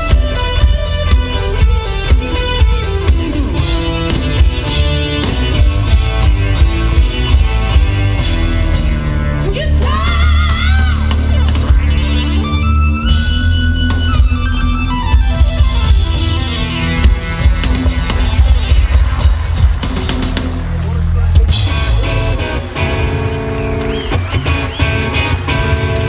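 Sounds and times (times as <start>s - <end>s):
rock band playing loudly: 0.0s - 26.0s.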